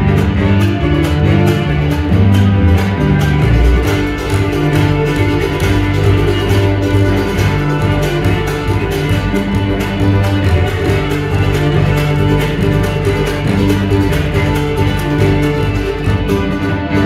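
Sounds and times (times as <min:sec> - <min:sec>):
bowed cello: 0:00.0 - 0:17.0
fiddle: 0:00.0 - 0:17.0
plucked upright bass: 0:00.0 - 0:17.0.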